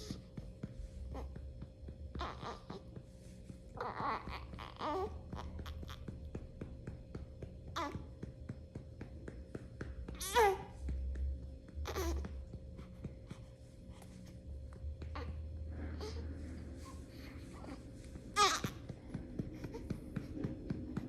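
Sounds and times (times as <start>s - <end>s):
patting on baby's back: 0.0s - 21.0s.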